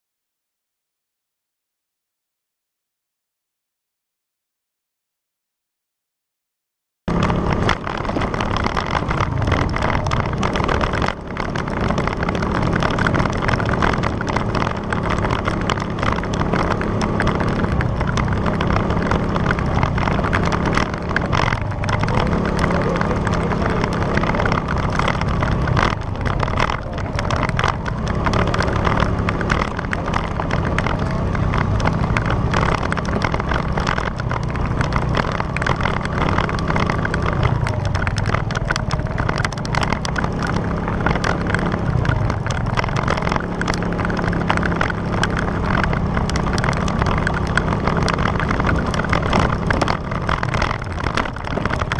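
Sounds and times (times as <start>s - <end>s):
constant rushing noise: 7.1s - 51.9s
motorcycle engine running: 7.1s - 51.9s.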